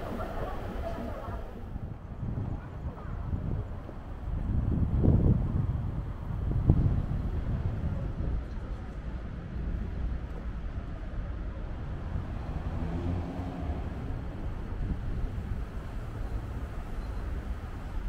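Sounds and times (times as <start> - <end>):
moving vehicle rumble: 0.0 - 18.0.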